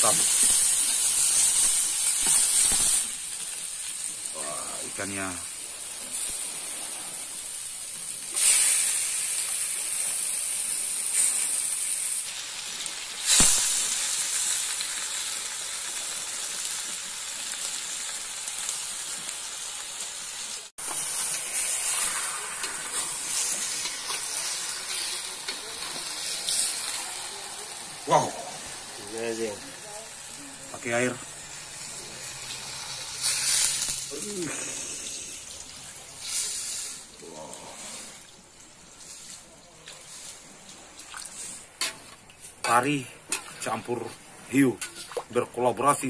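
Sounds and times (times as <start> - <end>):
fish sizzling in oil: 0.0 - 46.0.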